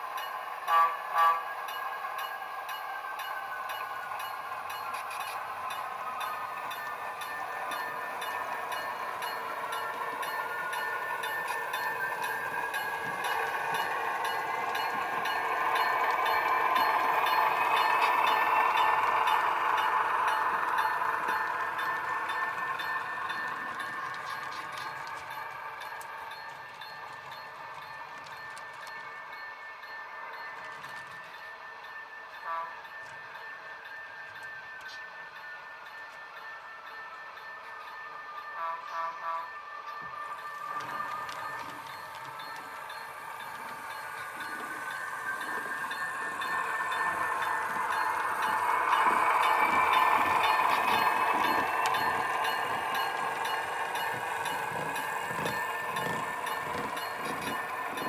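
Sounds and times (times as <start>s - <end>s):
model train humming: 0.0s - 58.0s
light regular ticks: 1.7s - 31.6s, 32.3s - 35.2s, 40.0s - 58.0s.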